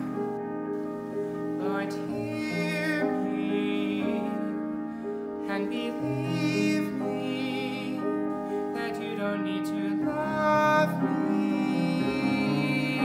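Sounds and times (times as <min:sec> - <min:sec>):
grand piano accompaniment: 0:00.0 - 0:13.0
man singing with vibrato: 0:01.6 - 0:04.8, 0:05.4 - 0:13.0.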